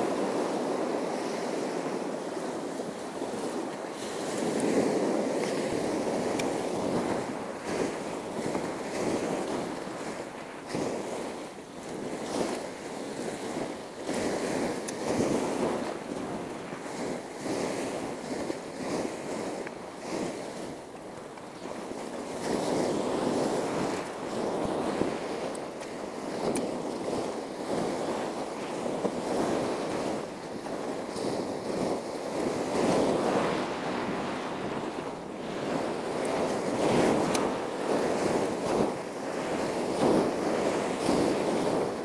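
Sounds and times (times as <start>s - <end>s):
waves washing in: 0.0s - 42.0s
wind buffeting microphone: 0.0s - 42.0s.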